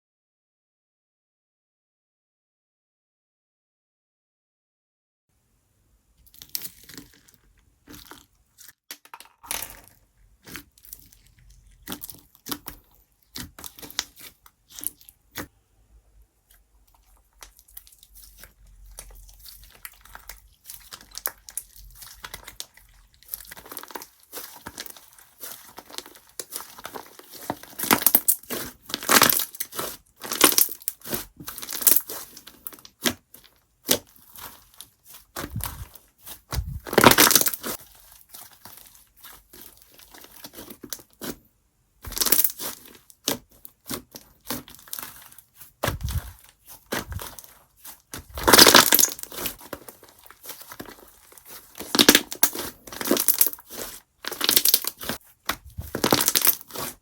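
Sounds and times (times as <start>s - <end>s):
slime with foam crackling: 9.4s - 15.6s, 16.4s - 41.4s, 42.0s - 57.0s.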